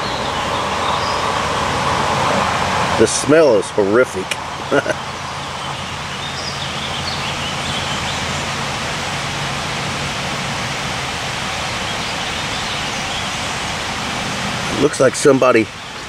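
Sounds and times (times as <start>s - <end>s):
rushing hiss: 0.0s - 16.0s.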